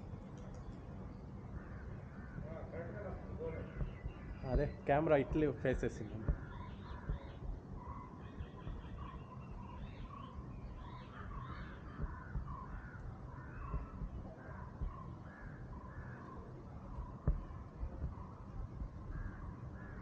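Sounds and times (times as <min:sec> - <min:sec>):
birds calling: 0:00.0 - 0:20.0
low rumble: 0:01.5 - 0:20.0.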